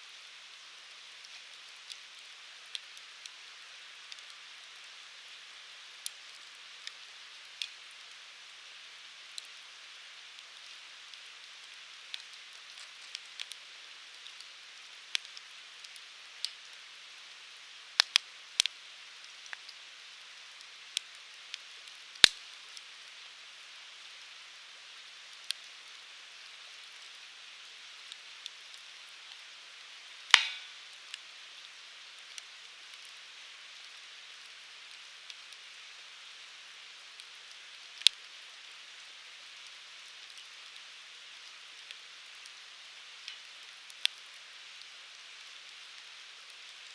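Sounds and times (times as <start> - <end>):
firewood crackling and popping: 0.9 - 8.2, 9.2 - 23.8, 25.0 - 38.5, 39.5 - 46.9.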